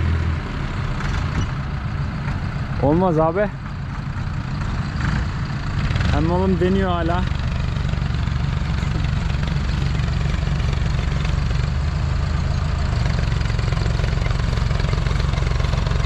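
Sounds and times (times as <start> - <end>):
tractor engine straining: 0.4 - 16.0.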